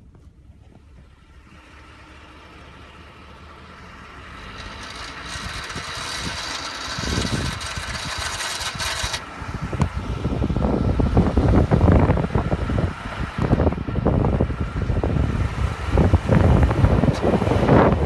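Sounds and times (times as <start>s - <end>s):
road and wind noise: 0.0s - 18.0s
truck engine hum: 0.0s - 18.0s.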